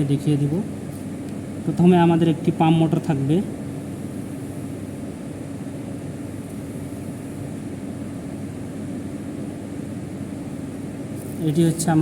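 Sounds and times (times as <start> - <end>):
mechanical hum with hiss: 0.0 - 12.0.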